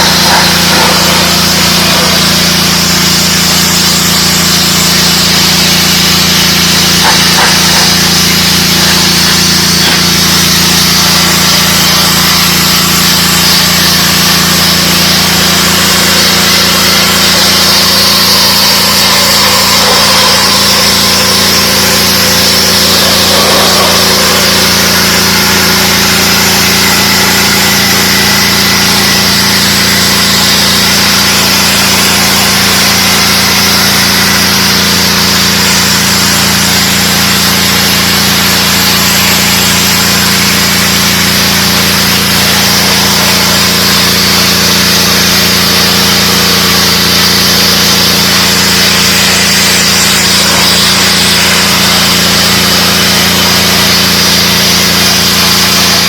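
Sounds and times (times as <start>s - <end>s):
high-pressure water spray hiss: 0.0s - 56.0s
pressure washer engine drone: 0.0s - 56.0s.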